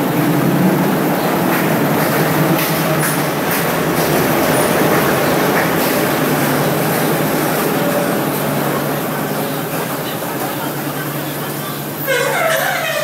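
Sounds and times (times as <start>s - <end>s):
diesel train engine rumbling: 0.0s - 13.0s.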